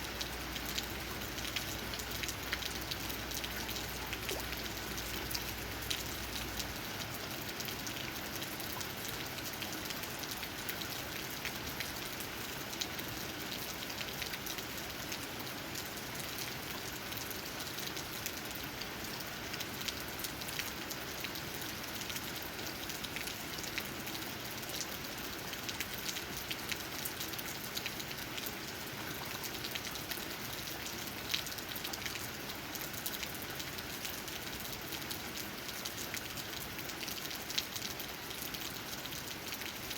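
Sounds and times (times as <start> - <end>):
raindrops tapping on leaves: 0.0 - 39.9.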